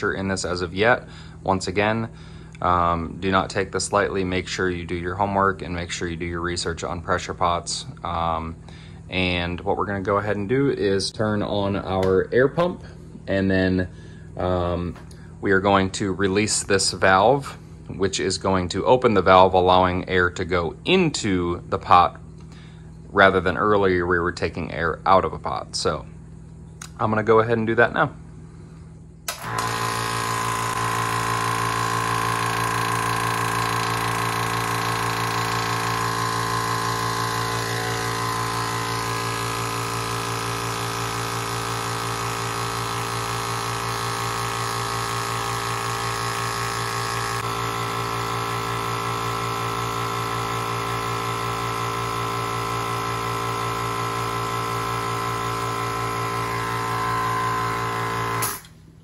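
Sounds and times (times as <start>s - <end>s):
air compressor running: 0.0s - 18.4s, 21.9s - 23.4s, 27.9s - 59.0s.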